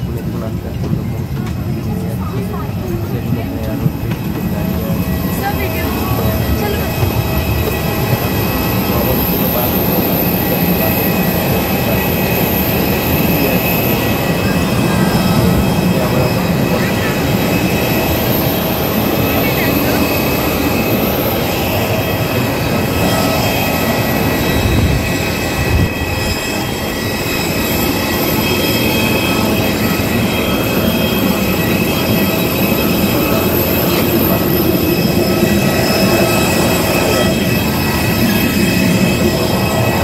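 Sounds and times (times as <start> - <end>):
jet engine rushing: 0.0 - 40.0
high whining tones: 3.1 - 40.0.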